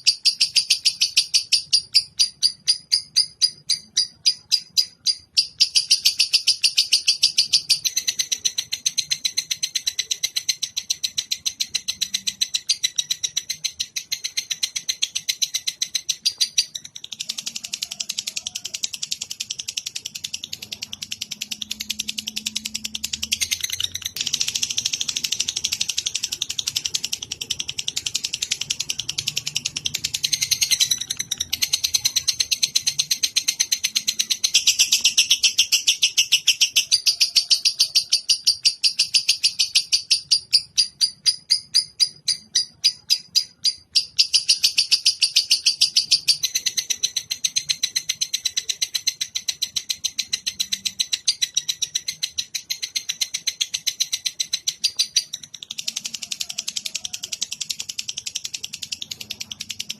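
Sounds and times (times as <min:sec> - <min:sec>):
bird chattering trill: 0:00.0 - 0:59.9.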